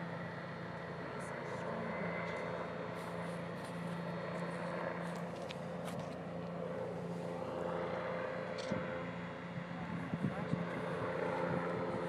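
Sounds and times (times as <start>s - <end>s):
distant helicopter drone: 0.0s - 12.0s.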